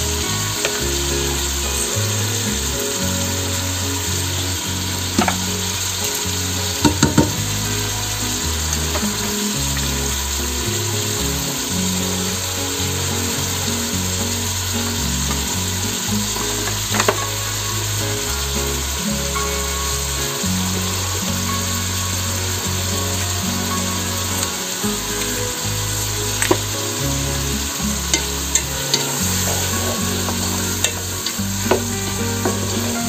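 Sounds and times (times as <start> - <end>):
vegetables sizzling in a pot: 0.0 - 33.0.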